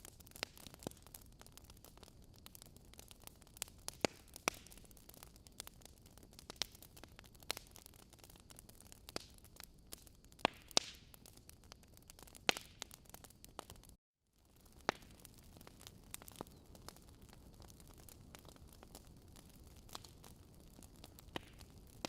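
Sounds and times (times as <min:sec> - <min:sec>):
logs crackling in a fireplace: 0:00.0 - 0:22.0.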